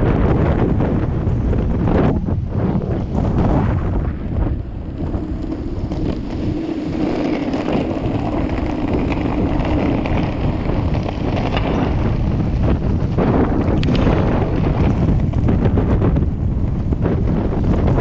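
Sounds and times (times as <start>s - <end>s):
skateboard rolling on road: 0.0s - 18.0s
wind buffeting microphone: 0.0s - 18.0s.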